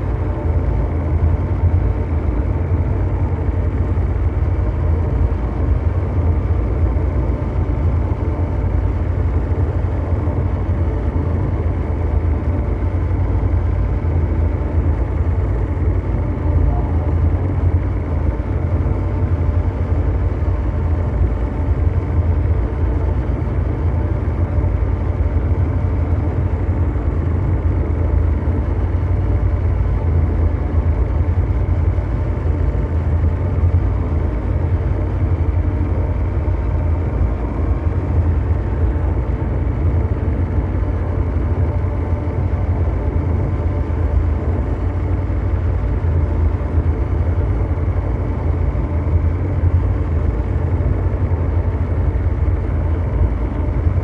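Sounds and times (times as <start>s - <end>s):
deep engine-like rumble: 0.0s - 54.0s
faint hum tones: 0.0s - 54.0s.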